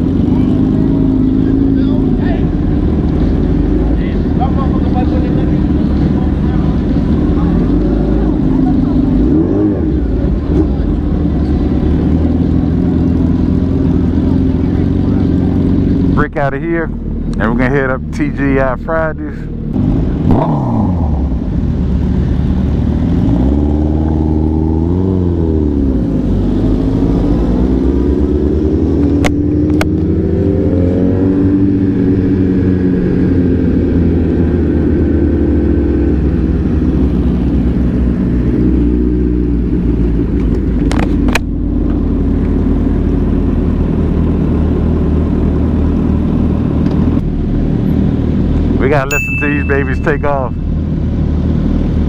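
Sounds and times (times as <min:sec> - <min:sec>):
motorcycle engine revving: 0:00.0 - 0:18.6, 0:19.4 - 0:50.8.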